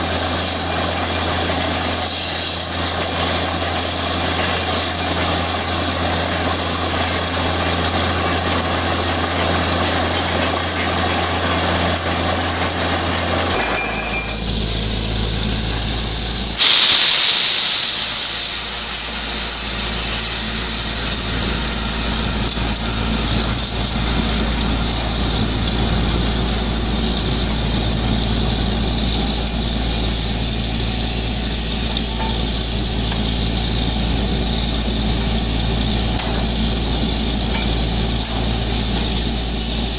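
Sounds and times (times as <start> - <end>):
drilling rig engine running: 0.0 - 39.9
loud rush of hissing air: 0.0 - 39.9.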